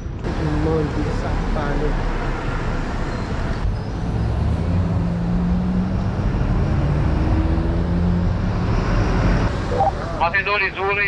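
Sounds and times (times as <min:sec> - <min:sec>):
passing vehicle engines: 0:00.0 - 0:11.0
road noise: 0:00.0 - 0:11.0.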